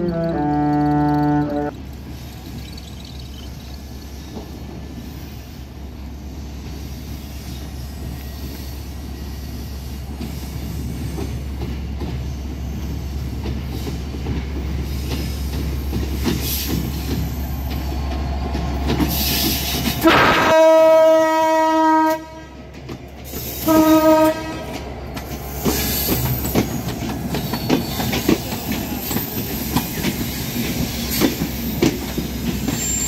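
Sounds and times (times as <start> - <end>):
diesel locomotive engine drone: 0.0 - 33.0
train rumbling on rails: 0.0 - 33.0
high hissing from rails: 1.8 - 20.6, 23.1 - 24.1, 24.7 - 33.0.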